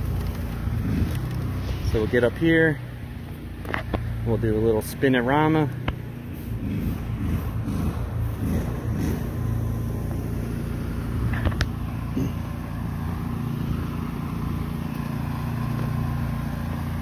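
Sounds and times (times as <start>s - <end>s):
engine running with low hum: 0.0s - 17.0s.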